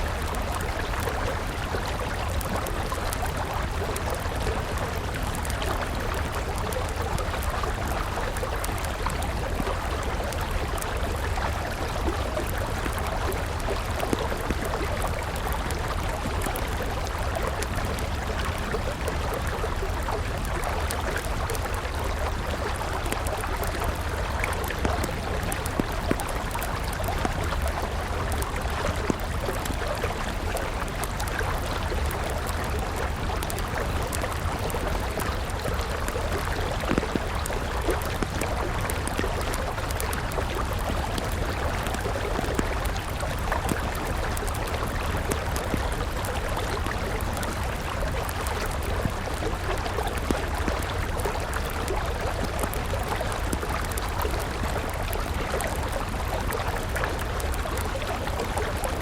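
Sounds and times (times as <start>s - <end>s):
campfire crackling: 0.0s - 59.0s
river flowing: 0.0s - 59.0s.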